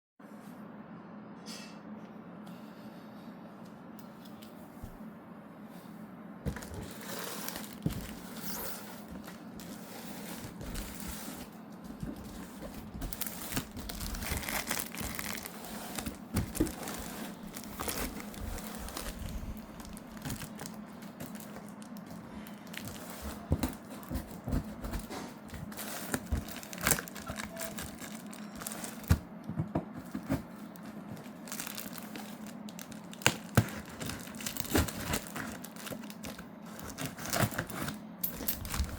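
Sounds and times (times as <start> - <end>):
steady low hum: 0.2 - 38.9
wrapping crinkling and tearing: 6.5 - 29.2, 30.1 - 38.9.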